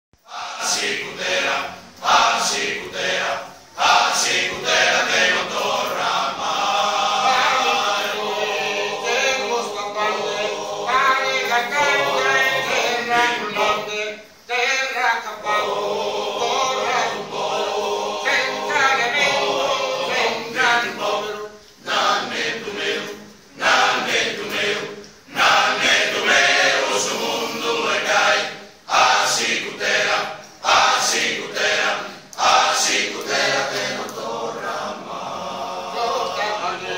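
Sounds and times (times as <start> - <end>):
male choir singing a cappella: 0.2 - 36.9.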